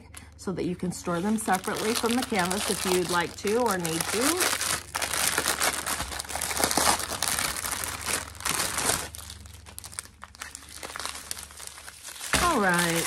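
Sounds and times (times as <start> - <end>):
plastic bag crinkling: 1.0 - 13.0.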